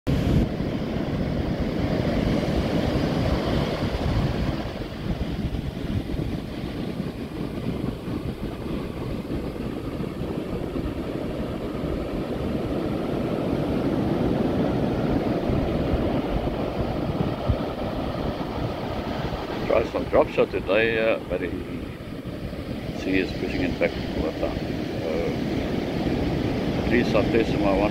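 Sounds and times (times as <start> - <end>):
ocean surf breaking on beach: 0.1 - 27.9.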